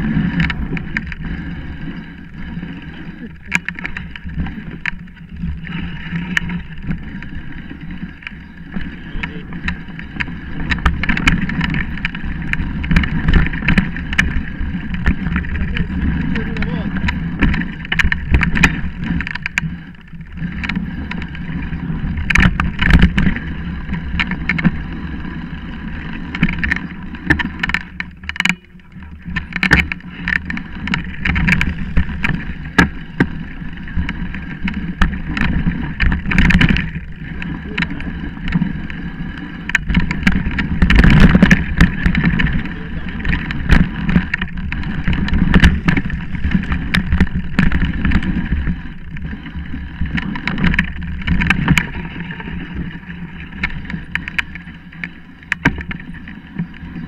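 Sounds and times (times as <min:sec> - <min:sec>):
bike rattling and knocking: 0:00.0 - 0:57.0
tyre noise: 0:00.0 - 0:57.0
wind on microphone: 0:00.0 - 0:57.0.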